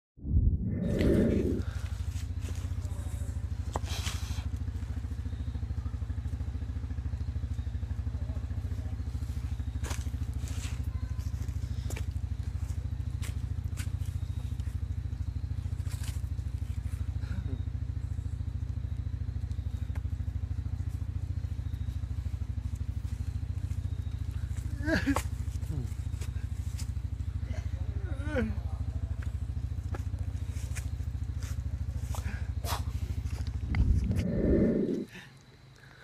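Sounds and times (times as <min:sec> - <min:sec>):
atv engine idling: 0:01.2 - 0:36.0.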